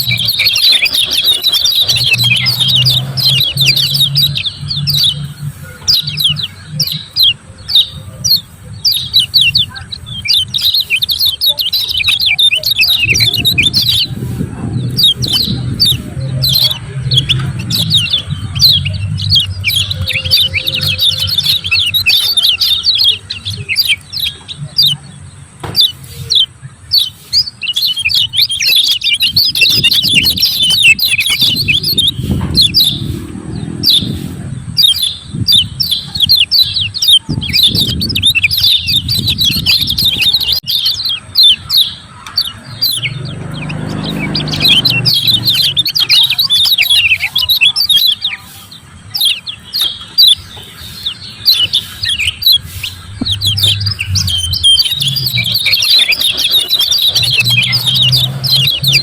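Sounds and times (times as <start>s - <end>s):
bird chattering calls: 0.0s - 59.0s.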